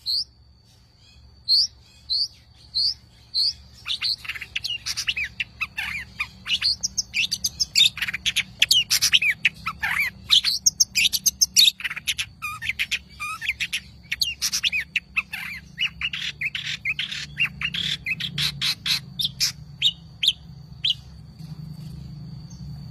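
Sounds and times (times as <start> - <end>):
shrike singing chirps: 0.0 - 22.9.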